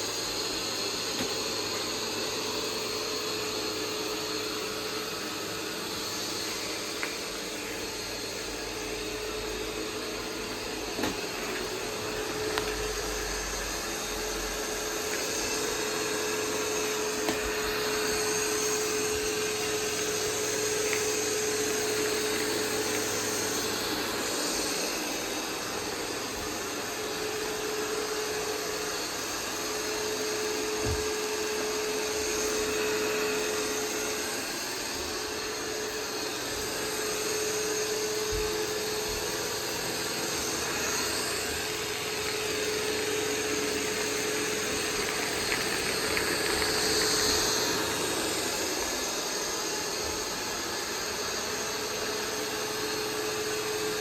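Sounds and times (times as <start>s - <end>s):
robot vacuum running: 0.0s - 54.0s.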